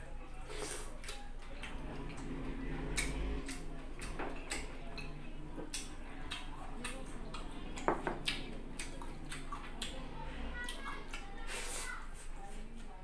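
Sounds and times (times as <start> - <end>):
person chewing with mouth clicks: 0.6 - 11.9.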